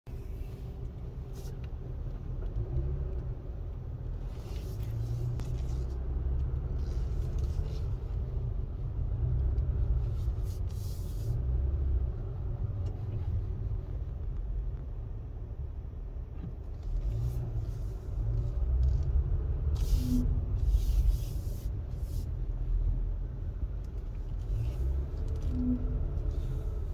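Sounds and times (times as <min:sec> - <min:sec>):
road and drivetrain rumble: 0:00.0 - 0:26.9.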